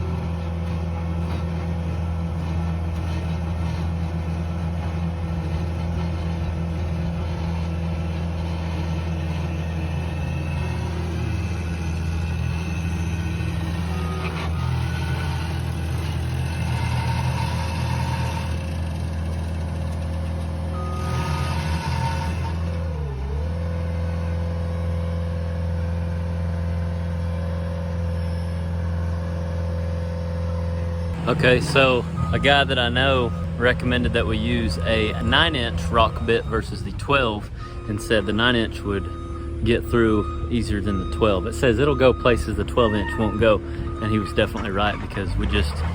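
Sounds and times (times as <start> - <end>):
engine running under load: 0.0 - 45.9.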